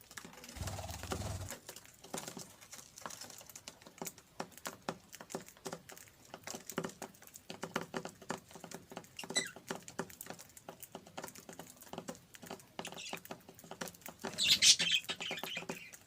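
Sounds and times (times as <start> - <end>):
budgies pecking at food: 0.0 - 16.0.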